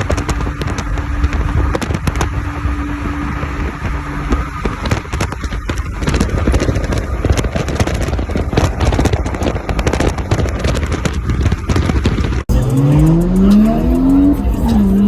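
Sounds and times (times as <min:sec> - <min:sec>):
engine low rumble: 0:00.0 - 0:15.0
exhaust crackling and popping: 0:00.0 - 0:15.0.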